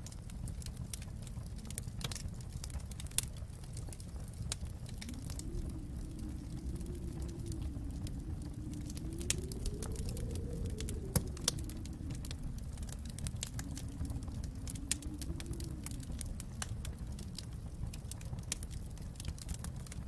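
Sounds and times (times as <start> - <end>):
wood fire crackling and popping: 0.0 - 20.0
low rumble: 0.1 - 20.0.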